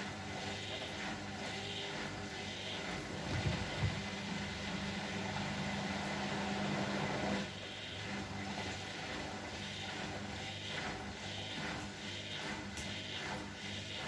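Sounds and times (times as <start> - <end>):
washing machine motor humming: 0.0 - 14.0.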